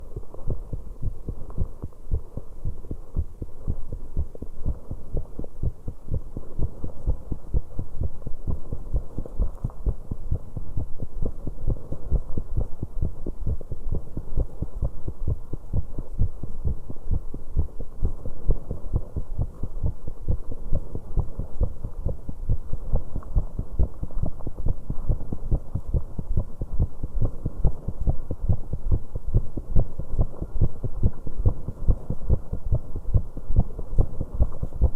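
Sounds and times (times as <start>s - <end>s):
fast pounding heartbeat: 0.0s - 34.9s.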